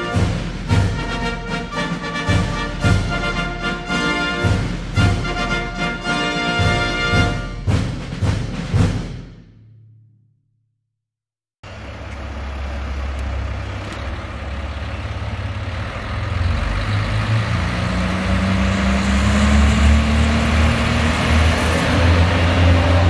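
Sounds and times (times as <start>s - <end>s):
train engine and wheel rumble: 0.0s - 7.8s, 11.6s - 23.0s.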